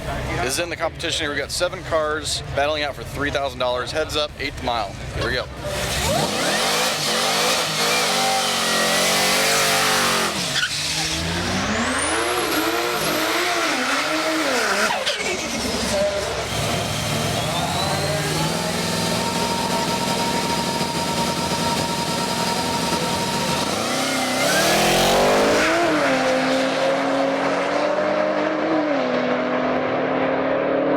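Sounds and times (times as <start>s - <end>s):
drag race cars accelerating: 5.1s - 30.9s.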